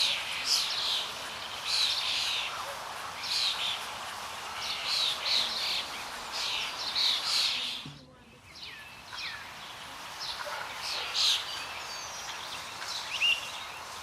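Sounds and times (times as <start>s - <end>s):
songbirds chirping: 0.0s - 14.0s
steady background hiss: 0.0s - 14.0s.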